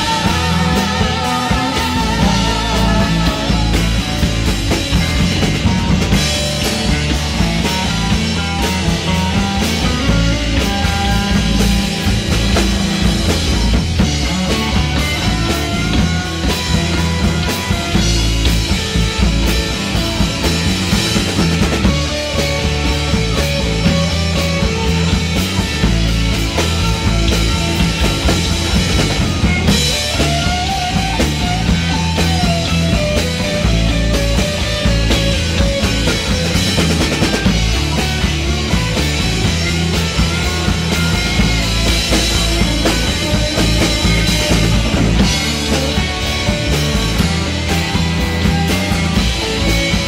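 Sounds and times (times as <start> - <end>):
drum kit beat: 0.0 - 50.0
live rock band playing: 0.0 - 50.0.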